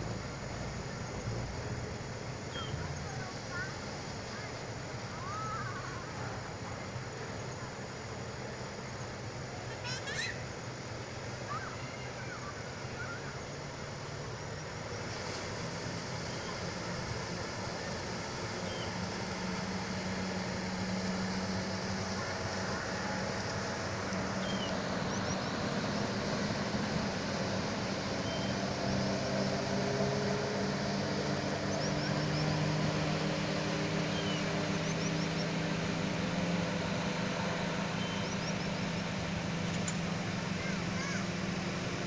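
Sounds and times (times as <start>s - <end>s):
continuous rushing noise: 0.0s - 42.0s
engines running: 0.0s - 42.0s
faint high pulsing whine: 0.0s - 42.0s.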